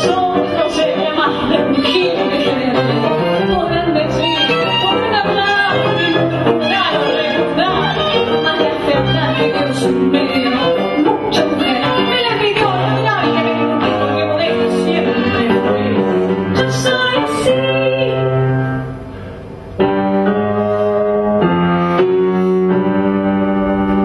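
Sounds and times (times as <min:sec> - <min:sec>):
piano: 0:00.0 - 0:24.0
violin bowed notes: 0:00.0 - 0:24.0.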